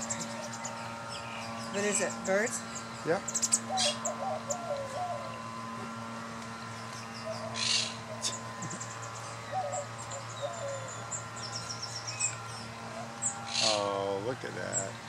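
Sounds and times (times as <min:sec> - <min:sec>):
bird chirps and warbles: 0:00.0 - 0:05.8, 0:06.6 - 0:14.0, 0:14.6 - 0:15.0
high rapid bird trill: 0:00.0 - 0:06.0, 0:06.6 - 0:14.0
steady low hum: 0:00.0 - 0:15.0.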